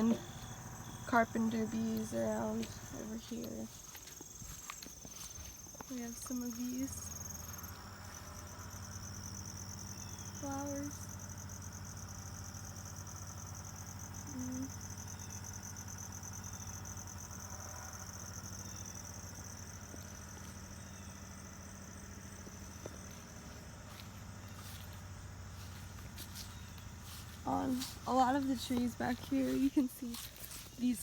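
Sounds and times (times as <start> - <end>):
insects trilling: 0.0 - 31.0
steady low hum: 0.0 - 31.0.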